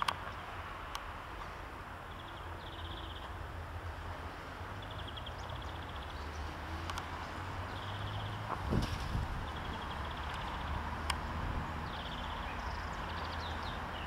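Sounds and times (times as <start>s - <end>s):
birds chirping: 1.4s - 3.6s, 4.6s - 14.0s.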